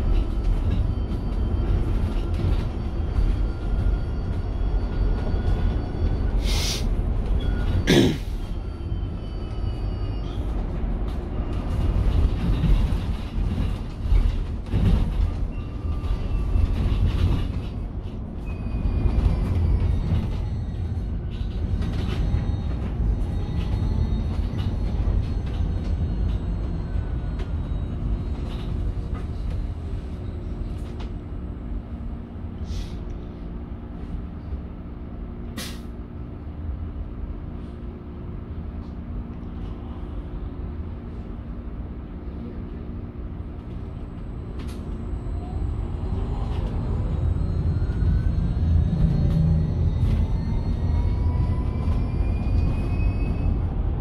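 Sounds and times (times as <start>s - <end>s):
road rumble inside bus: 0.0s - 54.0s.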